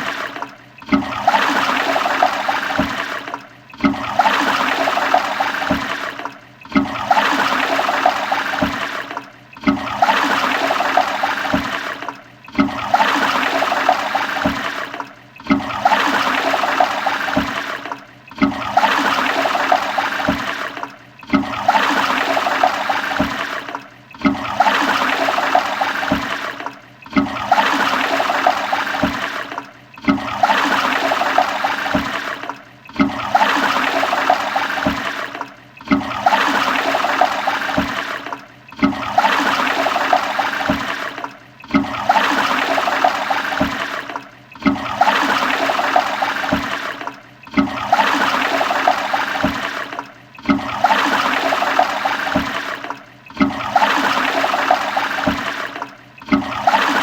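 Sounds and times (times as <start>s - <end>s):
toilet flushing: 0.0s - 57.0s.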